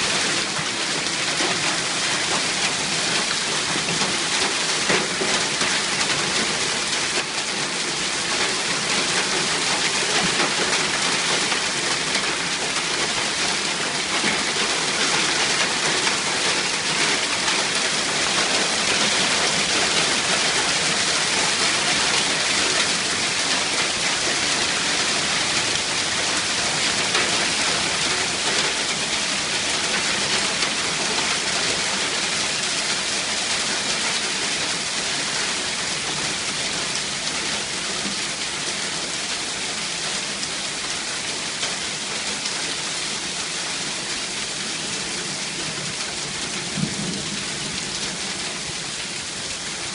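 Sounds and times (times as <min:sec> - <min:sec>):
hail and heavy rain: 0:00.0 - 0:49.9.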